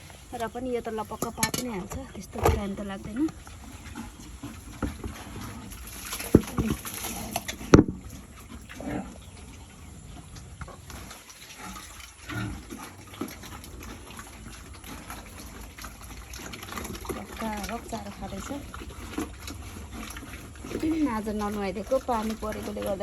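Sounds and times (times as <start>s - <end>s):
pigs chomping and slurping: 0.0s - 23.0s
pig grunting: 3.5s - 10.3s, 11.0s - 23.0s.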